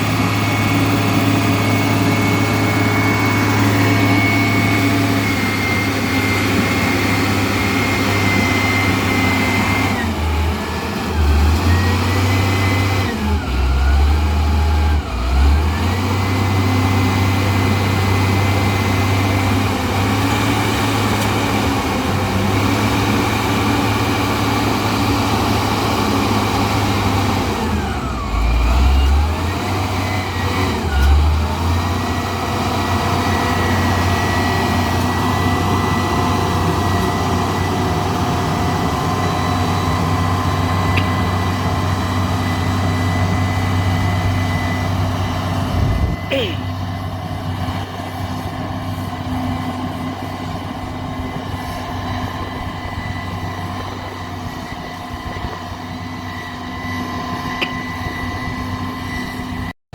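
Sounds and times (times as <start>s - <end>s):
heavy diesel engine running: 0.0s - 59.7s.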